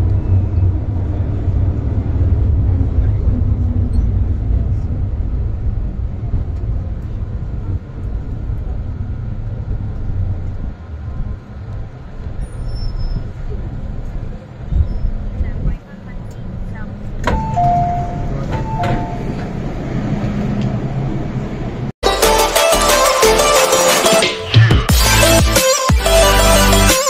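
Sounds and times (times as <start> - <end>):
train car low rumble: 0.0 - 22.0.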